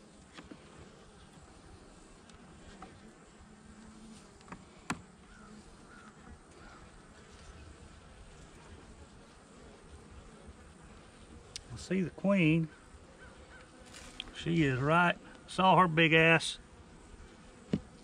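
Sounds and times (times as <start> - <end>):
bees humming: 0.0 - 18.0.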